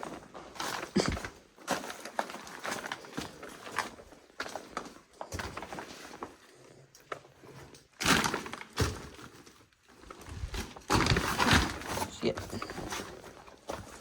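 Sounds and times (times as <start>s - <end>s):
debris crunching and cracking: 0.0s - 14.0s.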